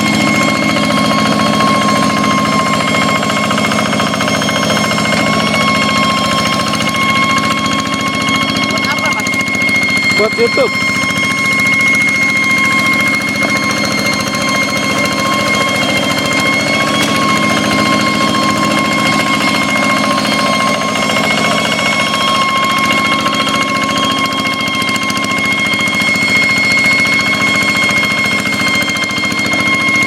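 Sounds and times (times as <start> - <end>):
diesel engine running: 0.0 - 30.0
high-pitched whine: 0.0 - 30.0.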